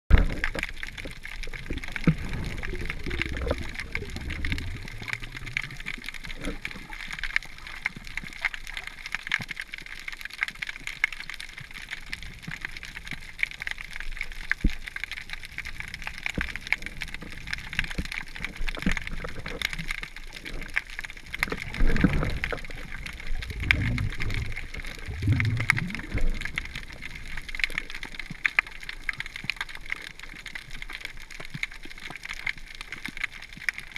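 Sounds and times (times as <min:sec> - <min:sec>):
muffled underwater gurgles: 0:00.1 - 0:10.0, 0:14.0 - 0:33.9
underwater crackle of tiny clicks: 0:00.1 - 0:33.9.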